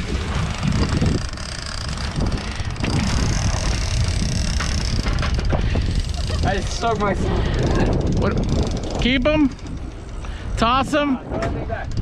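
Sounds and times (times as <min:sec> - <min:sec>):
boat engines droning: 0:00.0 - 0:12.0
wind rumbling on microphone: 0:00.0 - 0:12.0.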